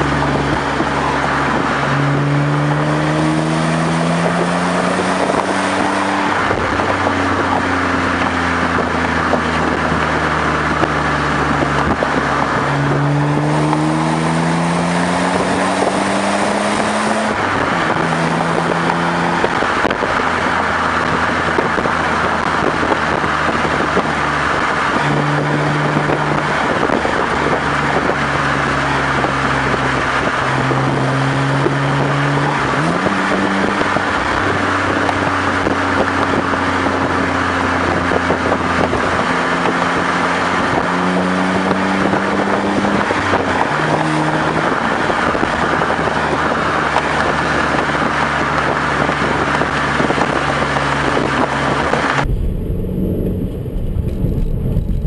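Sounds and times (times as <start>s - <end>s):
car exhaust while driving: 0.0s - 55.0s
road and wind rush: 0.0s - 55.0s.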